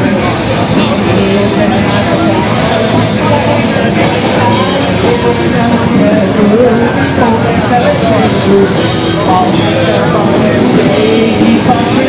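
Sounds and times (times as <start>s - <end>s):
electric guitar: 0.0s - 12.0s
rock music with singing: 0.0s - 12.0s.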